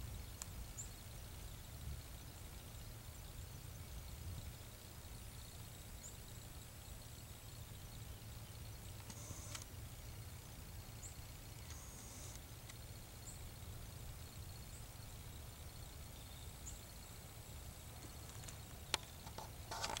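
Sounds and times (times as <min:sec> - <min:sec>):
low steady rumble: 0:00.0 - 0:19.7.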